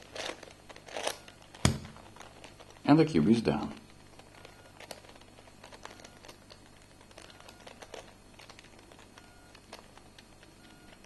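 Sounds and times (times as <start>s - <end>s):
puzzle cube plastic clicks: 0.0s - 2.8s, 3.7s - 11.0s.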